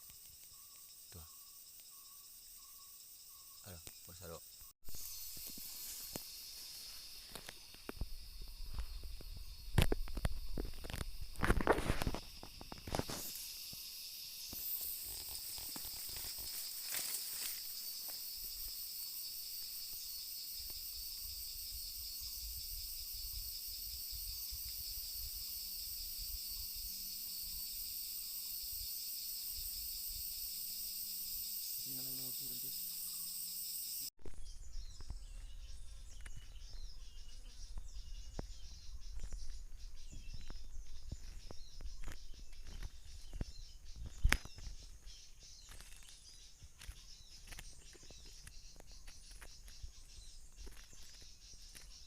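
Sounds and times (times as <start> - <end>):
faint bird chirps: 0.0 - 11.0, 12.5 - 52.0
high-pitched insect chorus: 0.0 - 52.0.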